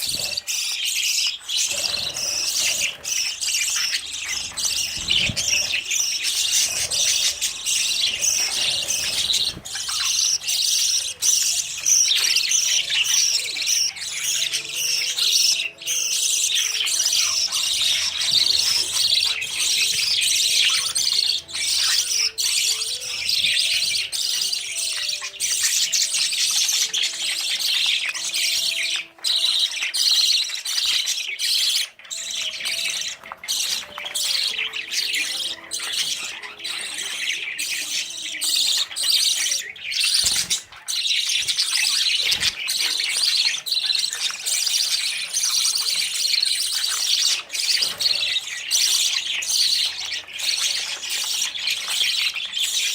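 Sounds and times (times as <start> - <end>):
budgerigars chirping and chattering: 0.0 - 52.9.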